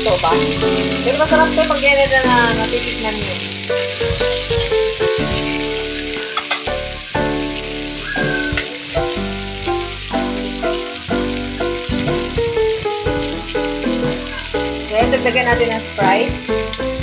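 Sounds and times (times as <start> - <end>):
background music: 0.0 - 17.0
shrimp sizzling in a pan: 0.0 - 17.0.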